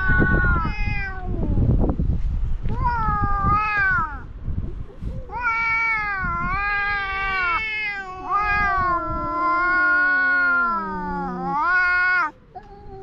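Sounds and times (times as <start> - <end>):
cats yowling: 0.0 - 1.6, 2.7 - 4.3, 5.2 - 13.0.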